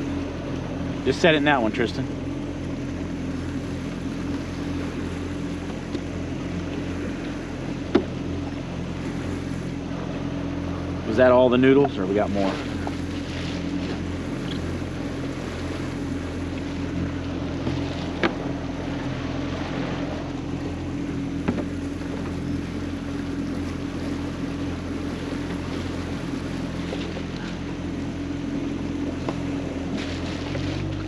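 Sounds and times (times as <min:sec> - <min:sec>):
boat motor running: 0:00.0 - 0:31.0
water noise: 0:00.0 - 0:31.0
wind: 0:00.0 - 0:31.0.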